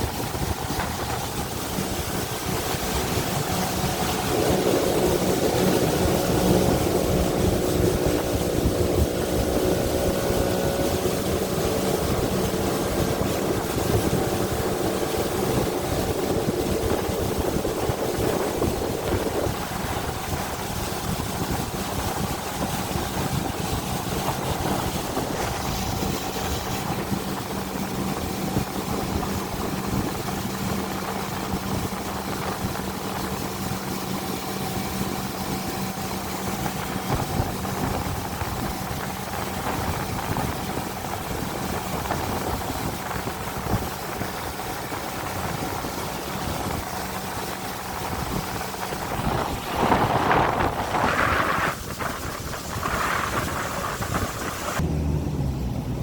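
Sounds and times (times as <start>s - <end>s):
motorboat engine running: 0.0s - 56.0s
rush of wind and water: 0.0s - 56.0s.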